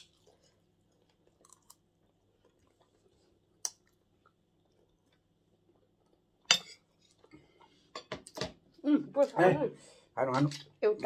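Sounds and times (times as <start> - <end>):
soft chewing: 0.0 - 9.4.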